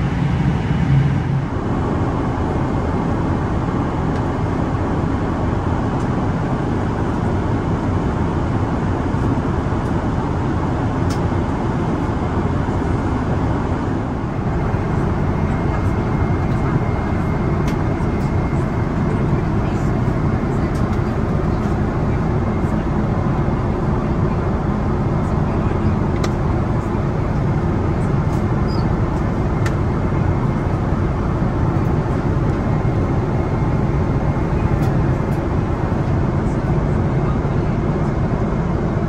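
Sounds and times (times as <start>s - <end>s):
airliner cabin roar: 0.0s - 39.0s.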